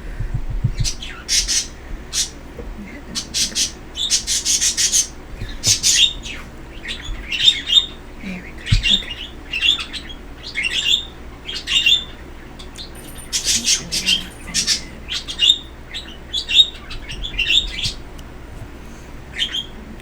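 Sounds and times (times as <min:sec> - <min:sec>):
small bird chirping: 0:00.3 - 0:20.0.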